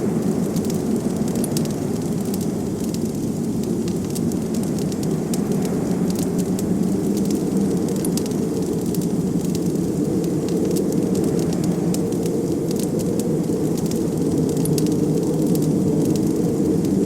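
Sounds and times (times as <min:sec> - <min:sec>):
blizzard wind rushing: 0:00.0 - 0:17.0
wood fire crackling and popping: 0:00.0 - 0:17.0.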